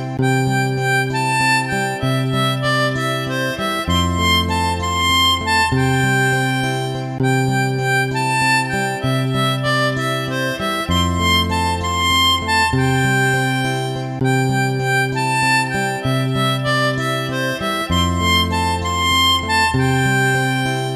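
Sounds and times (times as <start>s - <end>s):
held bass notes: 0.0s - 20.9s
reed-like melody: 0.0s - 20.9s.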